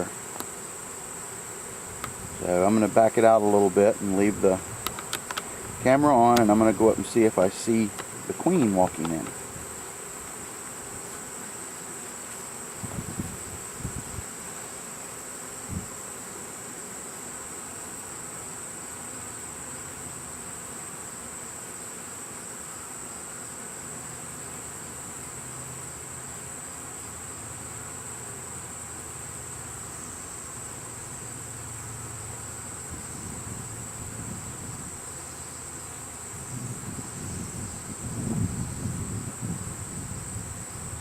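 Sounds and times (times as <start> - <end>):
crickets trilling: 0.0 - 41.0
honeybees humming: 0.0 - 41.0.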